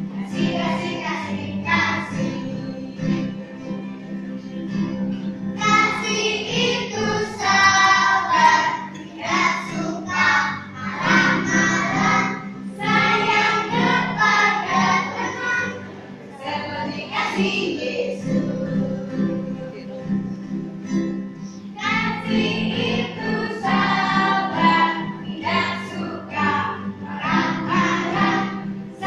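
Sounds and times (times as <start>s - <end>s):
children's choir singing: 0.0s - 4.1s, 5.6s - 19.9s, 21.7s - 29.0s
acoustic guitar: 0.0s - 29.0s.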